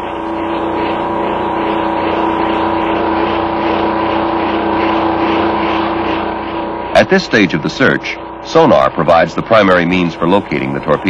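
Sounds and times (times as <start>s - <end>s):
machine drone hum: 0.0s - 11.0s.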